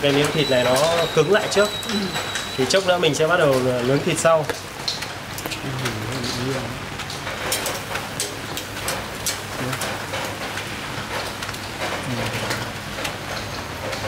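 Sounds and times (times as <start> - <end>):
rain drop taps: 0.0 - 14.0
rain falling: 0.0 - 14.0.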